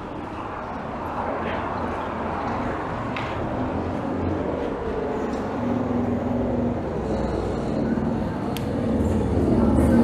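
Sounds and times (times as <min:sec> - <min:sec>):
road traffic engine hum: 0:00.0 - 0:10.0.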